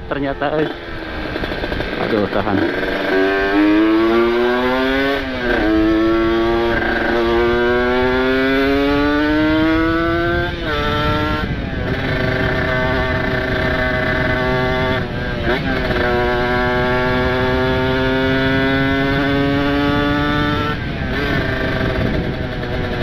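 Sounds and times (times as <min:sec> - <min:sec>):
two-stroke motorcycle accelerating: 0:00.0 - 0:23.0.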